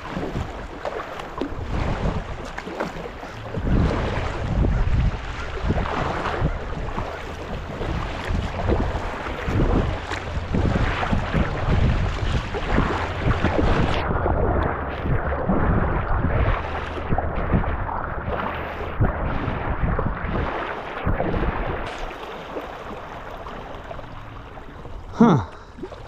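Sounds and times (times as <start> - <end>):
water splashing from kayak paddling: 0.0 - 26.0
wind rumbling on microphone: 0.0 - 26.0.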